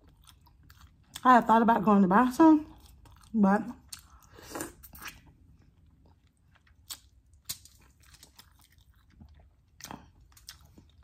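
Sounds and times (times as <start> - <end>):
person chewing chicken wing: 0.0 - 1.2, 2.7 - 11.0.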